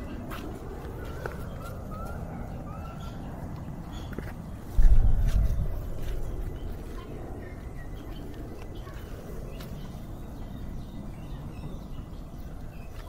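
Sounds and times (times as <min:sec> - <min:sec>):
low rumble: 0:00.0 - 0:12.8
outdoor background noise: 0:00.0 - 0:13.0.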